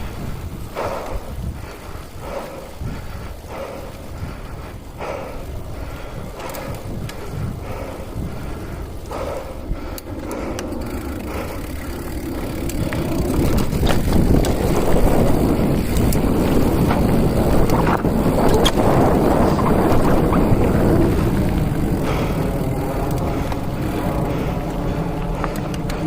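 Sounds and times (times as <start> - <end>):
rumbling rattle: 0.0 - 26.0
wind buffeting microphone: 0.0 - 26.0.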